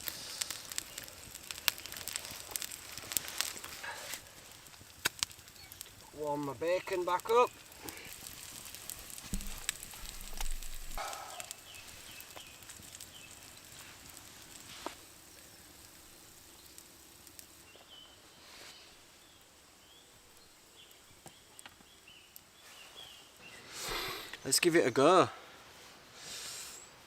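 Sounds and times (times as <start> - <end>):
bacon sizzling in a pan: 0.0 - 22.3
campfire crackling: 0.0 - 26.8
small birds chirping: 0.1 - 4.3, 4.9 - 14.5, 15.2 - 25.1.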